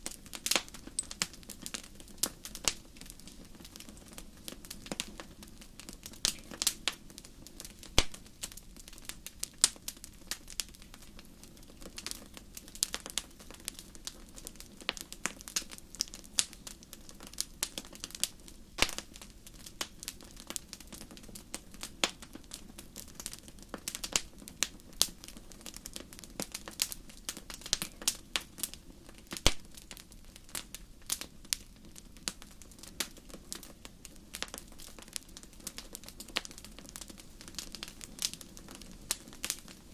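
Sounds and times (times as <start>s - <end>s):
low hiss of burning: 0.0s - 39.9s
wood fire pops and snaps: 0.0s - 39.9s.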